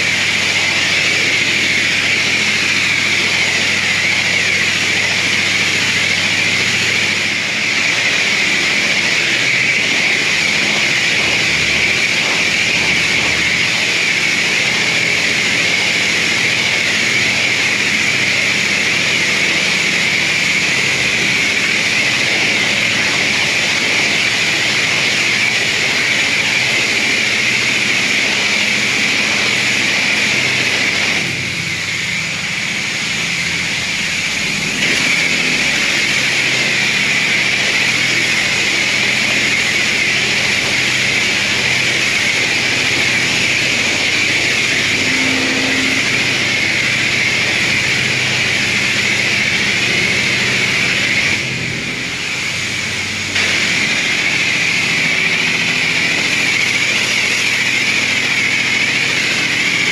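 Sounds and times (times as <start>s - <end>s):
pressure washer spraying: 0.0s - 51.3s.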